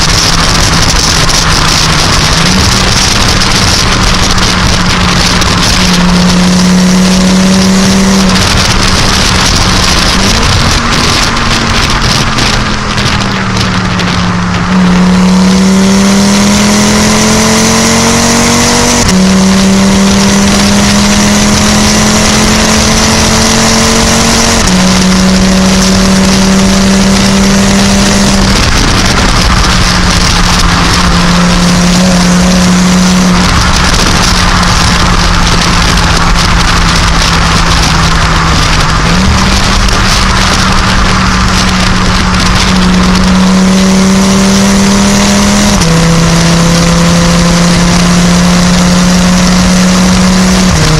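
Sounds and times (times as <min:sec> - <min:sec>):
car engine accelerating through gears: 0:00.0 - 0:50.9.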